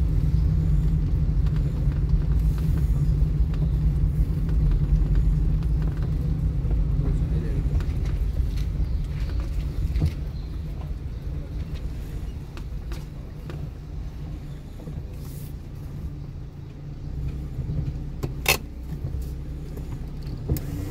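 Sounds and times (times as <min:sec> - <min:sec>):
car engine and road rumble: 0:00.0 - 0:20.9.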